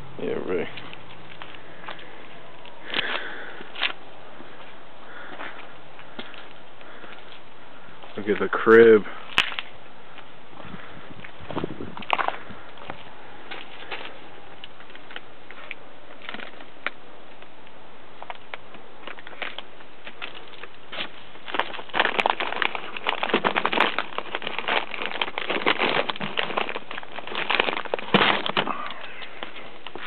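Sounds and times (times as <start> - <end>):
close rustling and crackling: 0.0 - 30.0.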